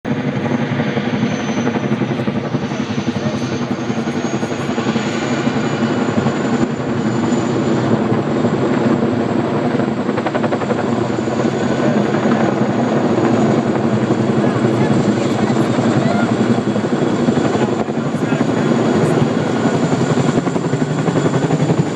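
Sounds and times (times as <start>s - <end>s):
helicopter rotor beating: 0.1s - 21.9s
turbine whine: 0.1s - 21.9s.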